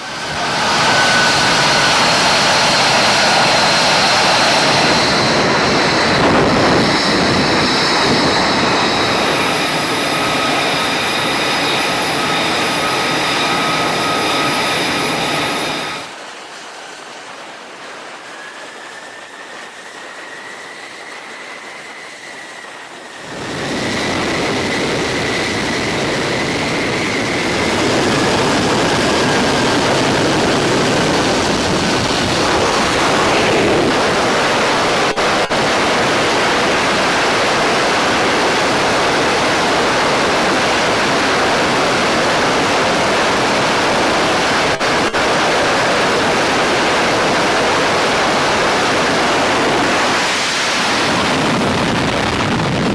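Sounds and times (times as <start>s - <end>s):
jet engine roaring: 0.0s - 52.9s.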